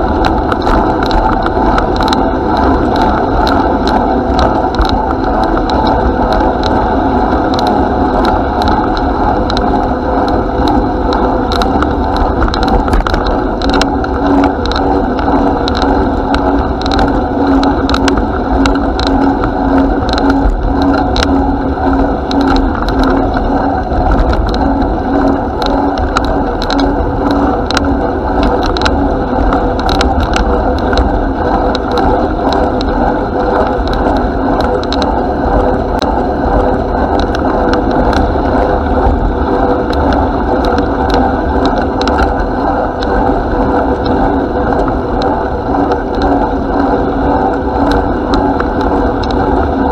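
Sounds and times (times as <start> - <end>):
bicycle tyres rumbling: 0.0 - 49.9
bike rattling clicks: 0.0 - 49.9
pulsing hum: 0.0 - 49.9
wind on microphone: 0.0 - 49.9.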